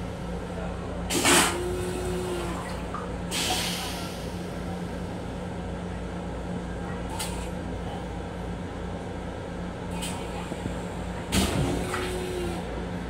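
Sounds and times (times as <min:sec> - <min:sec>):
train car humming: 0:00.0 - 0:13.0.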